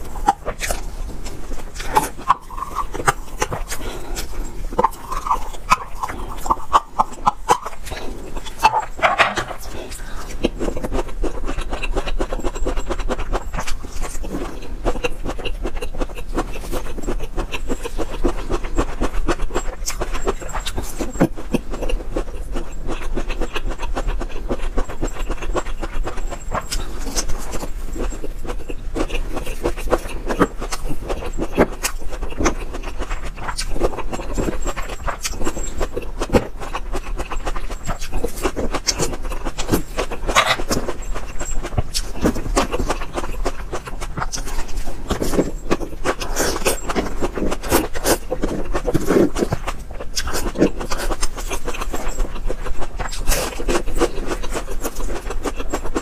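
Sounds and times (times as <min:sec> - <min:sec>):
close chewing of broccoli: 0:00.0 - 0:56.0
faint low hum: 0:00.0 - 0:56.0.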